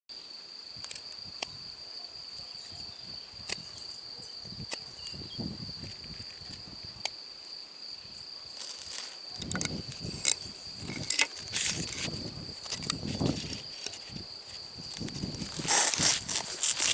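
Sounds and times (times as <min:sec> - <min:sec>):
insect trilling: 0:00.7 - 0:16.9.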